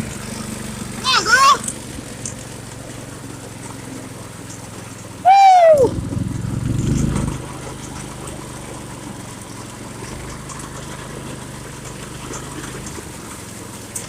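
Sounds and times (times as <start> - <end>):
go-kart engine running: 0.0 - 14.0.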